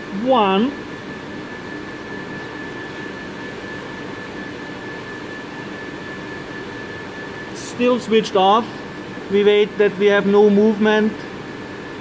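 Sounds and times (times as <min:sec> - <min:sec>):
high-pitched whine: 0:00.0 - 0:12.0
ventilation hum and hiss: 0:00.0 - 0:12.0.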